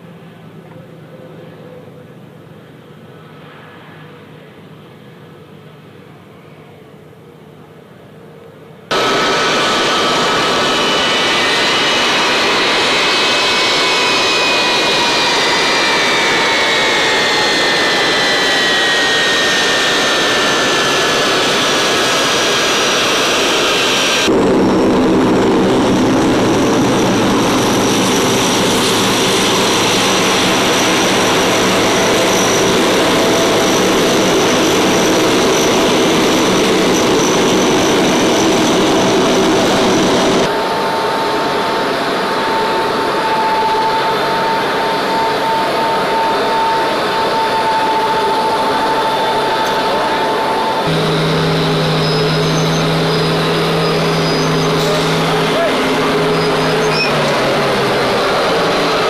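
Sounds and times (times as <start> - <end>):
deep engine drone: 8.8 - 59.0
jet engines whining: 8.9 - 59.0.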